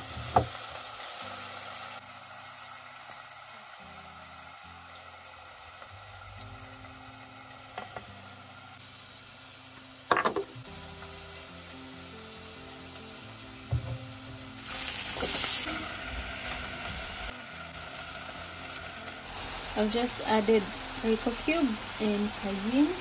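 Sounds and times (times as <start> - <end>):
food sizzling in hot oil: 0.0 - 23.0
soft background music: 0.0 - 23.0.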